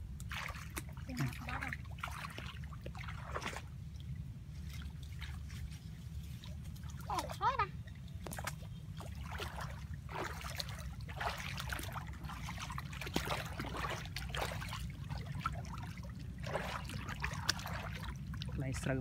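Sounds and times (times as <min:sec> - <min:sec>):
wading through water splashing: 0:00.0 - 0:19.0.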